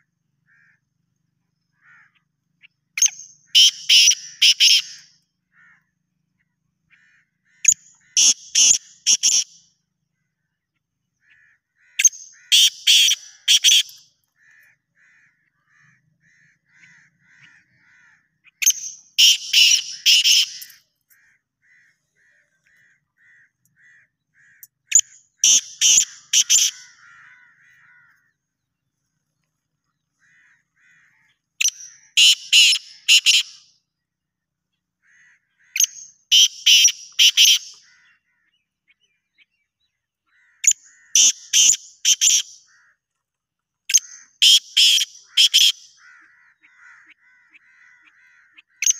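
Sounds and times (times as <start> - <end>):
francolins calling: 0.0 - 33.7, 34.3 - 43.0, 43.9 - 48.9.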